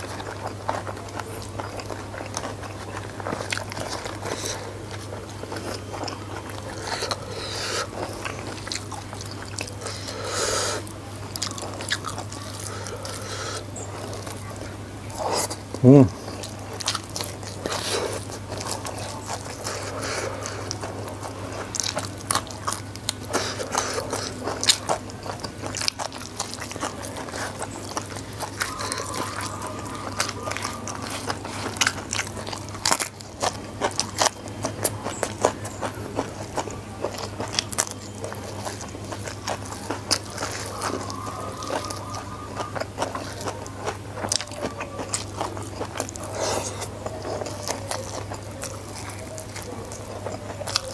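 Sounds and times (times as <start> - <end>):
chewing and crunching: 0.0 - 50.9.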